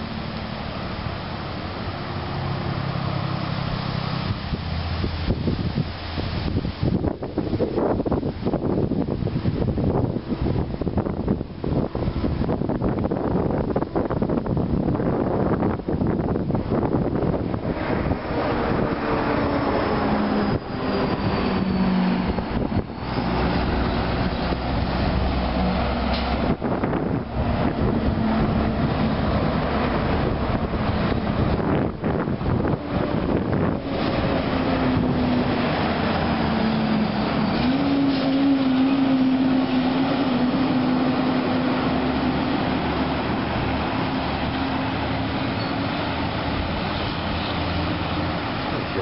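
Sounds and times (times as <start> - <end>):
truck diesel engines under load: 0.0 - 49.0
tyre and road noise: 0.0 - 49.0.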